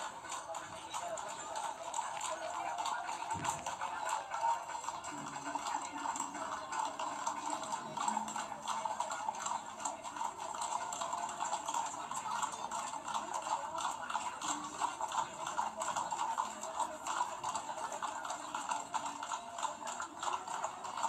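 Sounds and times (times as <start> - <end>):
horse hooves clip-clopping on pavement: 0.0 - 21.0.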